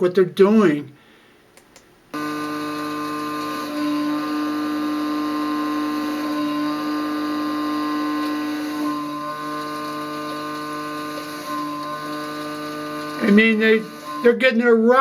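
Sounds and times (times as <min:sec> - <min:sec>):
milling machine humming: 0:02.2 - 0:14.5.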